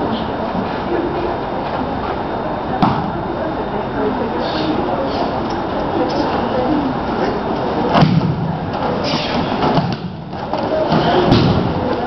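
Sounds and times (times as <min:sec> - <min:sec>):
murmur of onlookers: 0:00.0 - 0:12.0.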